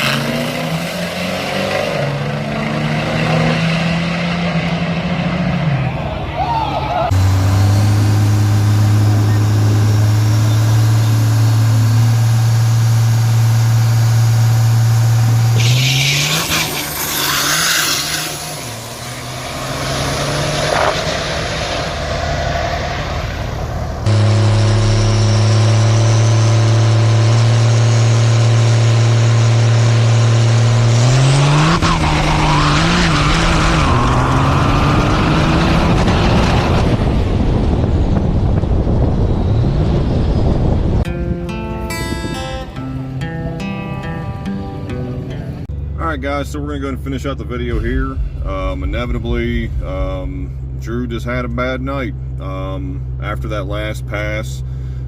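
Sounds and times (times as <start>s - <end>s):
diesel truck engines revving: 0.0s - 41.1s, 42.2s - 55.0s.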